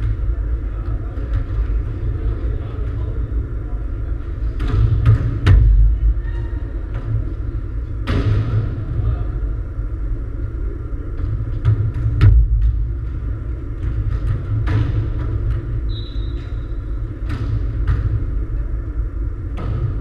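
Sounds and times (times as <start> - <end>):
constant low rumble: 0.0 - 20.0.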